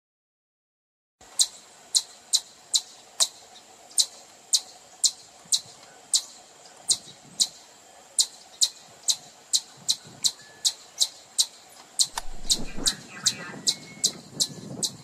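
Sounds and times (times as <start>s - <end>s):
chipmunk chip calls: 1.3s - 15.0s.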